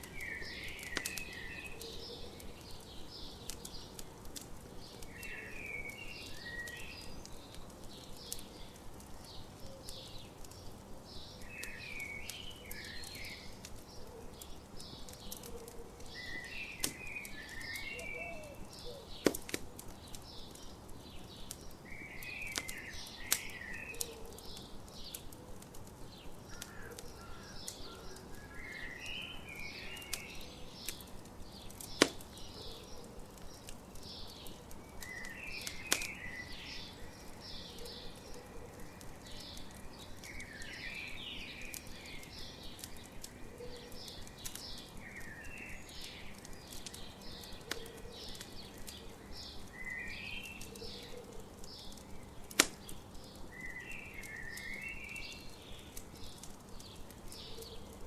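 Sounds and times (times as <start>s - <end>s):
burning wood popping: 0.0s - 58.0s
campfire crackling: 0.0s - 58.0s
songbirds singing: 0.0s - 58.0s.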